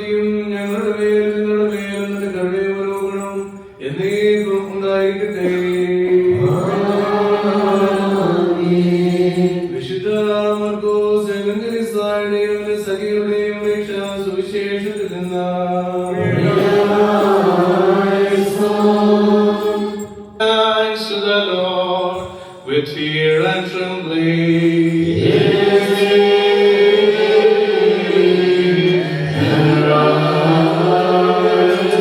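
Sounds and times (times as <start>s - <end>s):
liturgical chanting: 0.0s - 32.0s.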